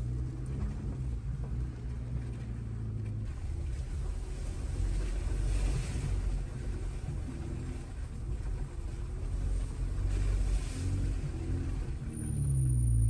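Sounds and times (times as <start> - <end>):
off-road vehicle engine rumbling: 0.0 - 13.0.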